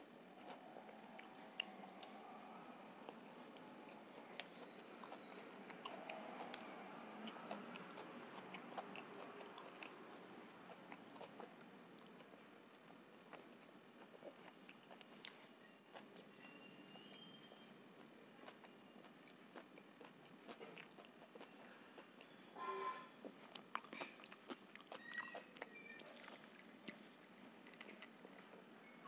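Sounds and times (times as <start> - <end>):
close-miked chewing: 0.0 - 22.6, 23.2 - 29.0
crunchy clicks of chewing: 0.2 - 22.5, 23.2 - 29.0.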